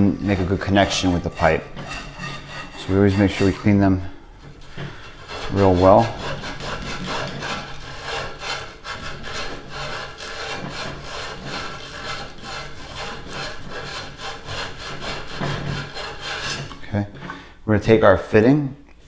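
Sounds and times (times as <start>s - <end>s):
sandpaper scraping copper pipe: 0.0s - 16.8s.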